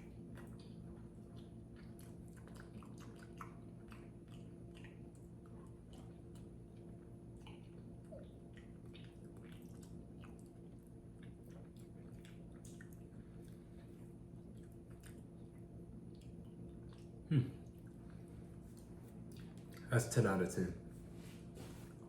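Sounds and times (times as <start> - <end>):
person chewing ice cream: 0.0 - 19.9
steady low hum: 0.0 - 22.0.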